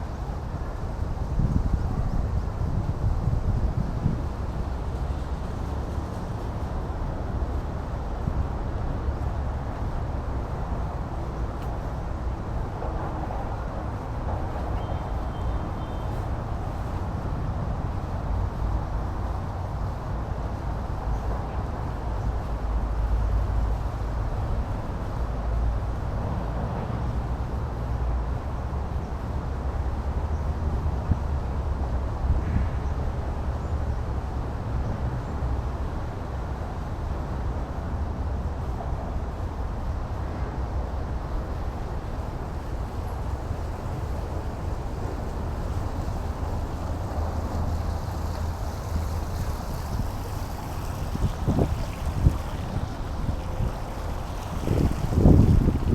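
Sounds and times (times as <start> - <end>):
low rumble and hiss: 0.0 - 55.9.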